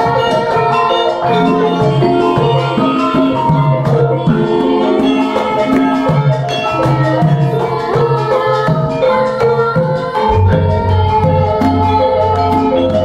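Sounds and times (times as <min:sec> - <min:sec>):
gamelan ensemble playing: 0:00.0 - 0:13.0.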